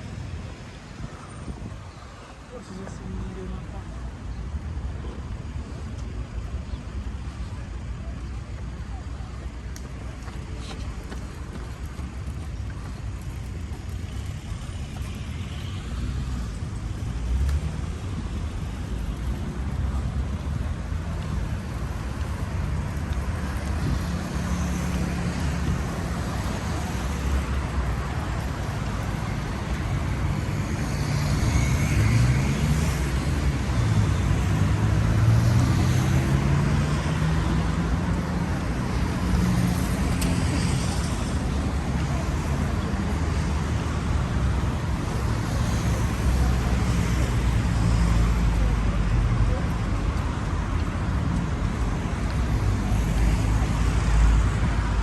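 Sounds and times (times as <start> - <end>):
cars passing: 0.0 - 55.0.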